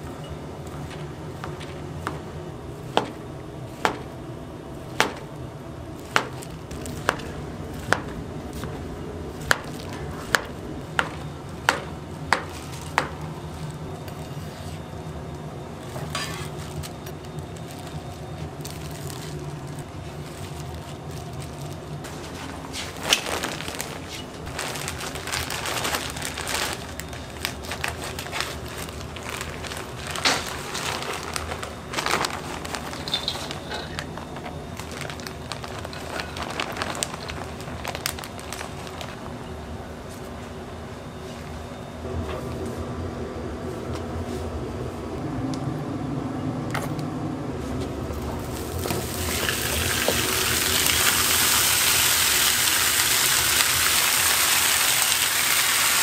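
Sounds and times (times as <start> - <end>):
steady low hum: 0.0 - 54.1.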